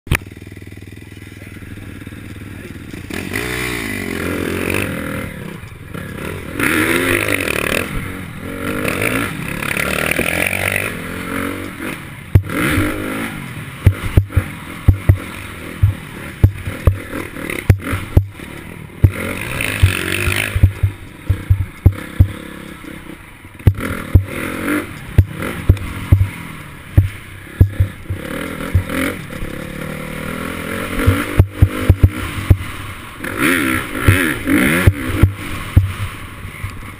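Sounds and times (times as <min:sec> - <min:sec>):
dirt bike engine revving: 0:00.1 - 0:36.9
knocks and rattles over rough trail: 0:00.1 - 0:36.9.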